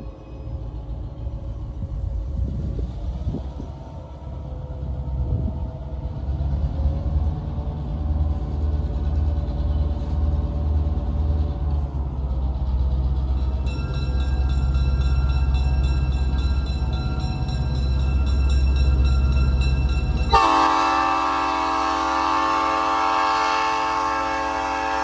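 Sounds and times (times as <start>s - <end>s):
diesel locomotive engine rumble: 0.0s - 25.0s.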